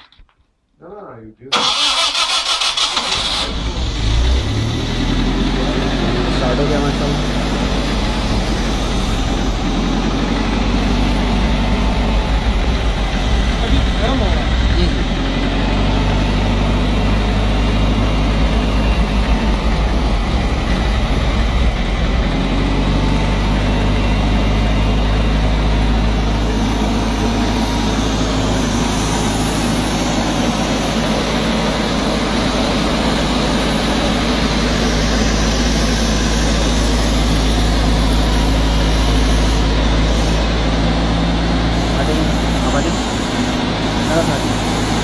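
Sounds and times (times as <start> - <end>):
generator engine running: 1.5 - 45.0.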